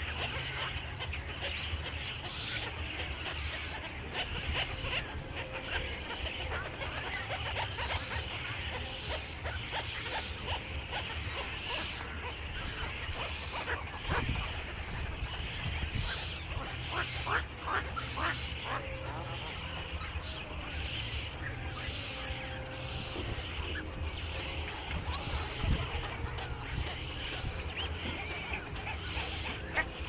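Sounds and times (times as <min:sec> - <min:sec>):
low steady hum: 0:00.0 - 0:30.0
small birds chirping: 0:00.0 - 0:30.0.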